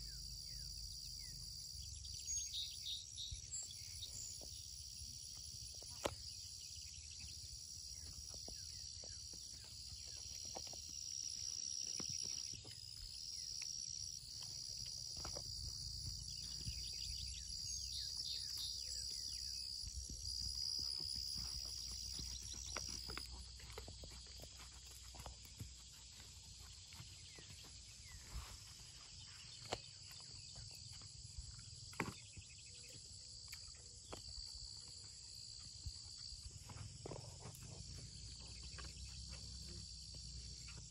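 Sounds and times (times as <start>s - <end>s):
insects trilling: 0.0s - 40.9s
horse hooves on sand: 3.6s - 33.0s, 33.6s - 40.9s.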